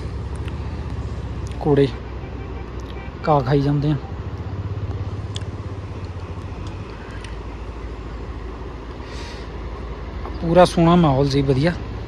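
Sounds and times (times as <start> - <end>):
engine running with low throb: 0.0 - 12.0.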